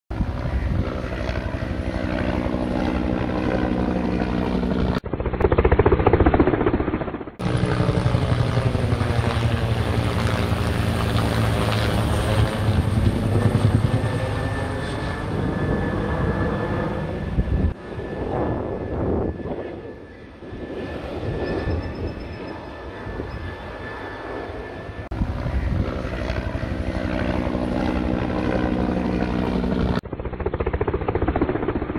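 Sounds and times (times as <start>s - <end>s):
helicopter rotor drone: 0.1s - 31.9s.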